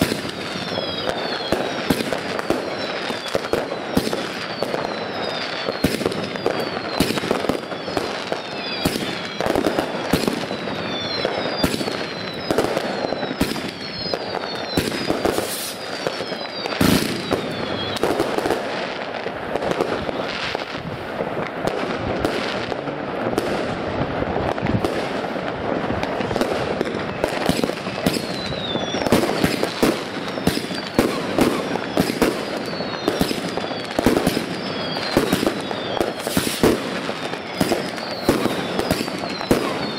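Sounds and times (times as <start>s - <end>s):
falling firework whistles: 0.0s - 22.8s, 24.5s - 39.9s
firework bangs and crackles: 0.0s - 39.9s.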